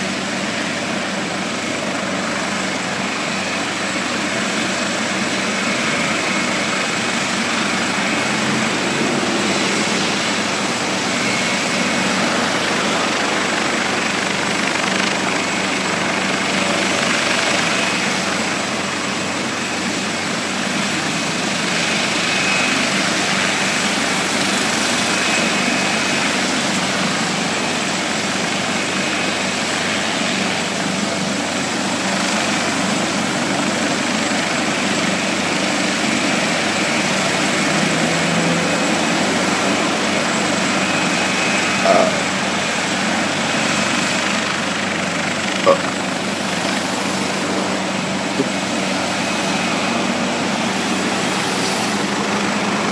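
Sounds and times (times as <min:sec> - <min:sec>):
helicopter rotor and turbine noise: 0:00.0 - 0:52.9
high turbine whine: 0:00.0 - 0:52.9.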